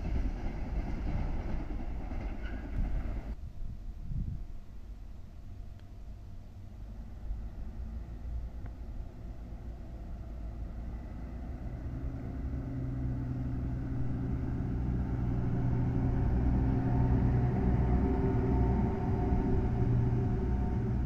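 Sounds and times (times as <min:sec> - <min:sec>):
diesel locomotive passing: 0:00.0 - 0:03.4, 0:05.2 - 0:21.0.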